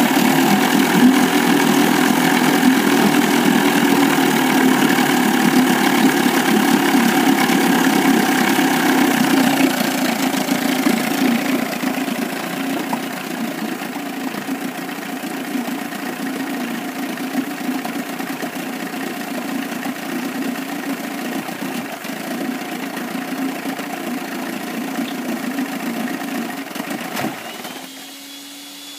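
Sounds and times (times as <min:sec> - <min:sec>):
outboard motor idling: 0:00.0 - 0:28.9.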